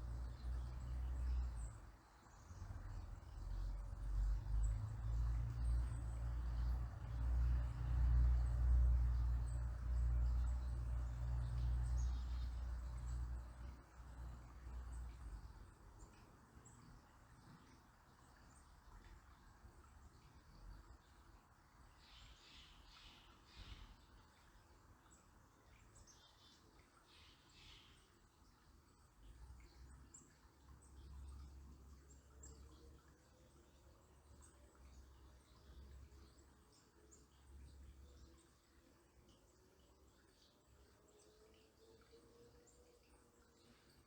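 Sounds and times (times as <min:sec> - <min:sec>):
flowing water: 0:00.0 - 0:44.0
small birds chirping: 0:00.0 - 0:44.0.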